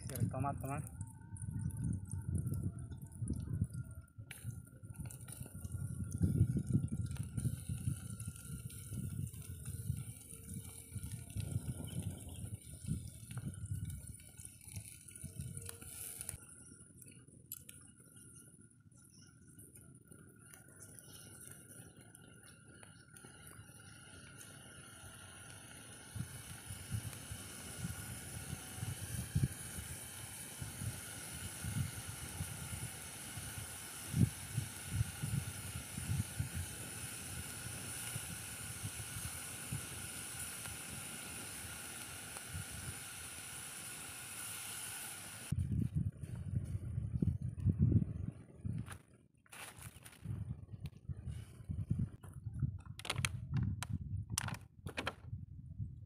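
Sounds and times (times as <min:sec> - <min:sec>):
wind buffeting microphone: 0:00.0 - 0:16.3, 0:25.2 - 0:44.1, 0:45.4 - 0:49.2, 0:49.8 - 0:56.0.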